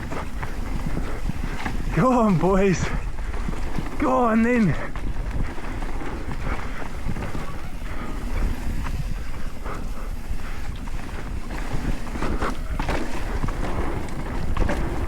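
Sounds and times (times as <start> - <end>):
mountain bike rumbling on dirt: 0.0 - 15.0
wind buffeting microphone: 0.0 - 15.0.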